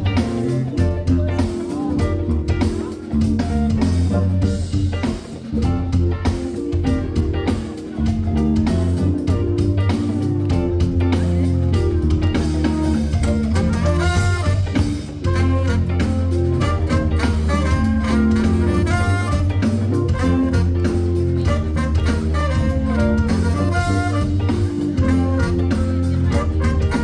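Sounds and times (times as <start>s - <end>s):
live jazz-funk band playing: 0.0s - 27.0s.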